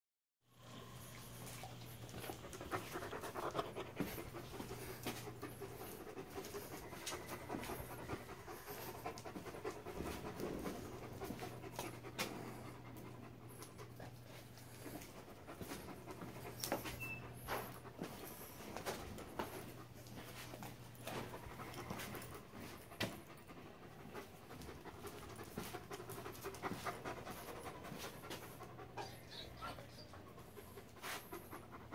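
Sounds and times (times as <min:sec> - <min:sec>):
dog panting: 0:01.0 - 0:31.9.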